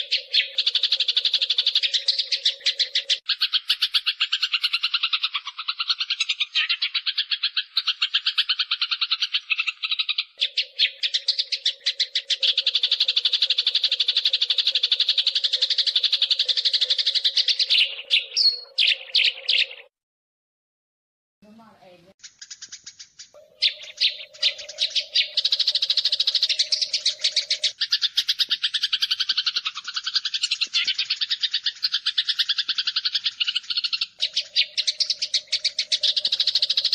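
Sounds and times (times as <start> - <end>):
sparrows chirping: 0.0 - 19.9, 21.6 - 36.9.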